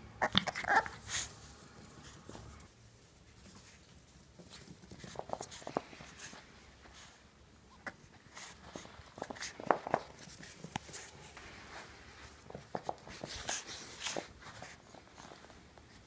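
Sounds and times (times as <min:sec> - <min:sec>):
puppy sniffing and snuffling: 0:00.3 - 0:16.0.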